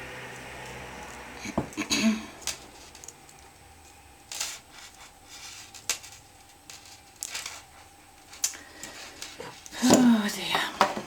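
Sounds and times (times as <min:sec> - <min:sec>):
rustles and scrapes of beads: 0:00.3 - 0:10.4.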